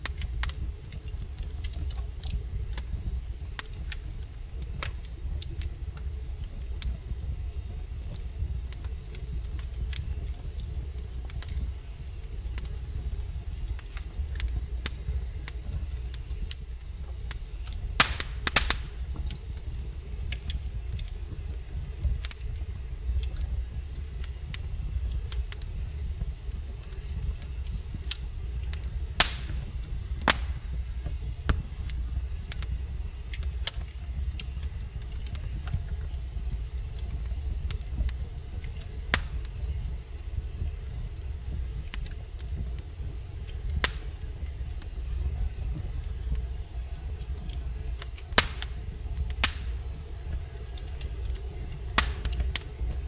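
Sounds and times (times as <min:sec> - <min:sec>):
logs crackling in a fireplace: 0:00.0 - 0:53.0
low steady fire rumble: 0:00.0 - 0:53.0
sharp pops of burning wood: 0:00.0 - 0:53.0.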